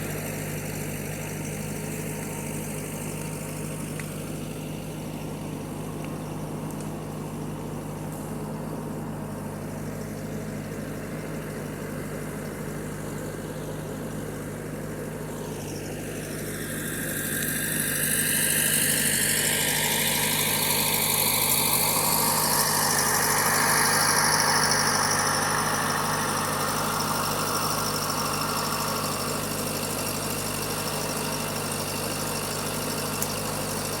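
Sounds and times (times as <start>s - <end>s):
rising engine whine: 0.0s - 34.0s
skid steer engine idling: 0.0s - 34.0s.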